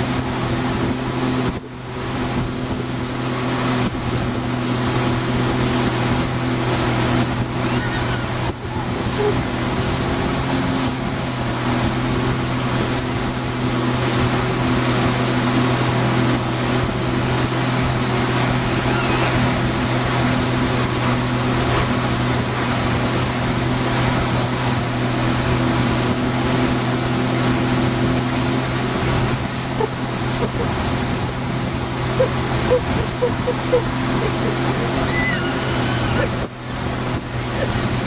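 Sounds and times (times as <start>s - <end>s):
motorboat engine running: 0.0s - 38.0s
rush of boat wake: 0.0s - 38.0s
wind over microphone: 0.0s - 38.0s.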